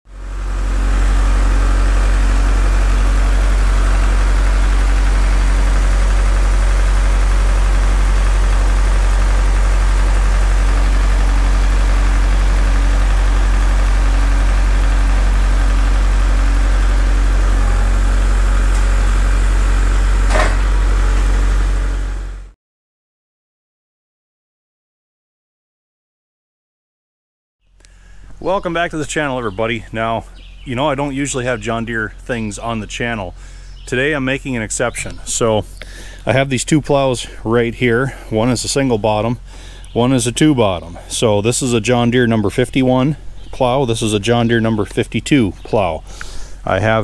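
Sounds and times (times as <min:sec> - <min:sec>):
tractor engine running: 0:00.1 - 0:22.6, 0:27.8 - 0:47.0.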